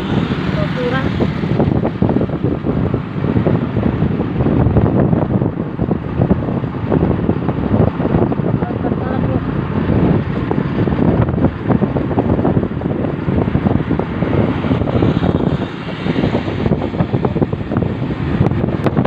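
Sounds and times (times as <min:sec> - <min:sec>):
airliner engine rumble: 0:00.0 - 0:19.0
wind buffeting microphone: 0:00.0 - 0:19.0.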